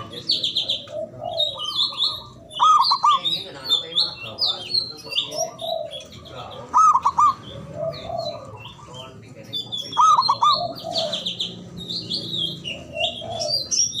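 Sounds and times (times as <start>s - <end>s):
dove cooing: 0.0s - 14.0s
small birds chirping: 0.0s - 14.0s.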